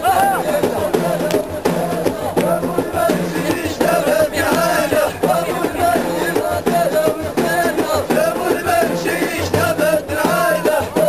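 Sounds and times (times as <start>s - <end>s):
men chanting in chorus: 0.0s - 11.0s.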